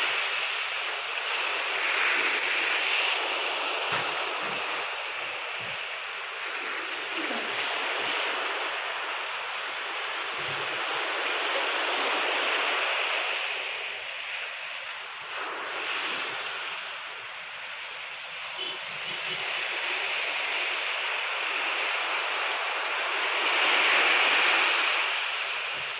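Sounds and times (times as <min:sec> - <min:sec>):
steady rushing noise: 0:00.0 - 0:25.9.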